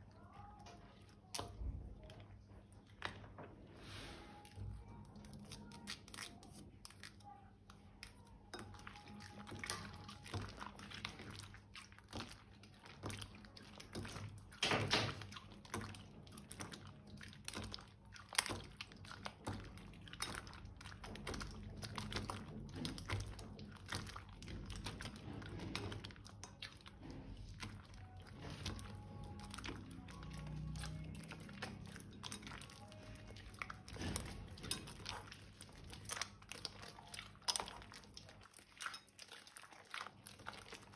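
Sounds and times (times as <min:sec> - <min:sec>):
slime squelching: 0:00.0 - 0:40.9.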